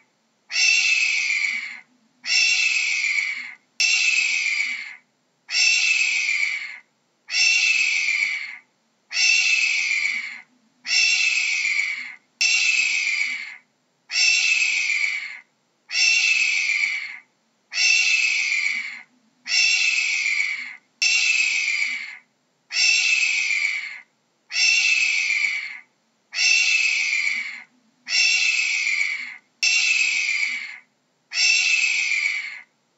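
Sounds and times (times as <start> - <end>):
hawk screaming: 0.5 - 32.7.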